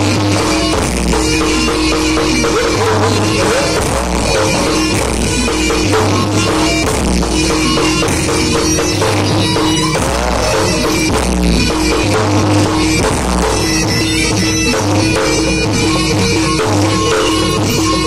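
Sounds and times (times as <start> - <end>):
drums keeping a steady beat: 0.0 - 18.0
sustained melodic tones: 0.7 - 18.0.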